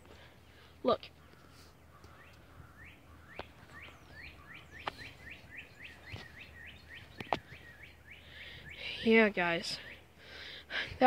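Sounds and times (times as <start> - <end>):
small bird chirping: 0.5 - 10.1.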